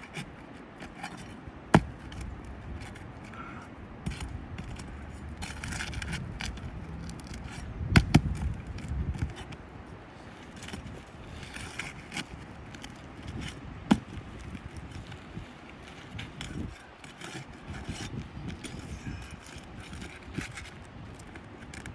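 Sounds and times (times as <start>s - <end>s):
scraping of roof shingles: 0.0s - 21.9s.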